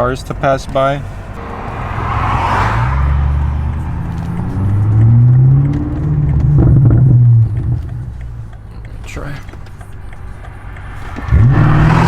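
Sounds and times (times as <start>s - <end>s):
car engine revving: 0.0s - 12.0s
car passing: 0.0s - 12.0s.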